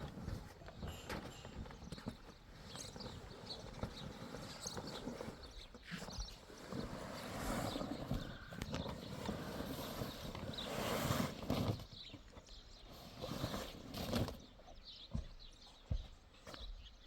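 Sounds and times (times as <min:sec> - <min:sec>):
hooves clopping and shuffling: 0:00.0 - 0:17.0.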